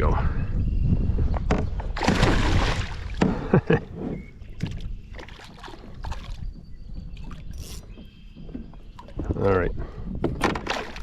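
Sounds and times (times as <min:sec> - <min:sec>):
low wind rumble: 0:00.0 - 0:11.0
water splashing against hull: 0:01.7 - 0:11.0.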